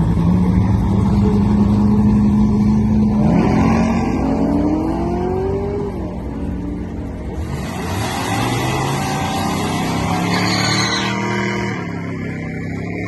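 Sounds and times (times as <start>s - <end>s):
drag race car engine: 0.0s - 13.0s.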